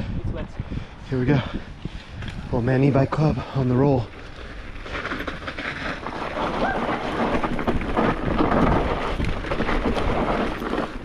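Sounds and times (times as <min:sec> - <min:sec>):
bike rattling: 0:01.3 - 0:11.0
bike tyres rumbling over dirt: 0:01.4 - 0:11.0.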